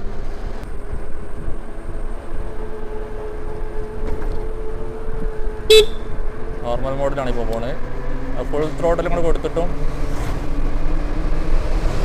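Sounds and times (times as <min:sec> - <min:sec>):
road noise: 0:00.0 - 0:12.0
wind rumble: 0:00.0 - 0:12.0.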